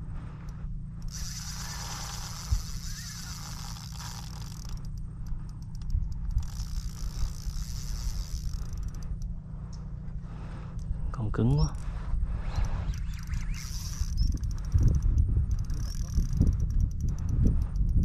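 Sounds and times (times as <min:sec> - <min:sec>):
low rumble: 0:00.0 - 0:18.0
fishing reel ratcheting: 0:00.4 - 0:09.4, 0:12.4 - 0:18.0.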